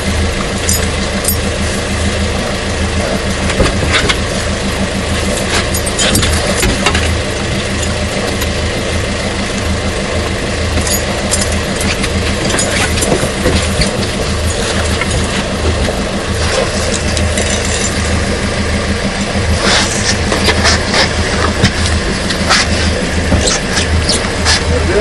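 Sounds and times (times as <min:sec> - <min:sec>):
boat engine idling: 0:00.0 - 0:25.0.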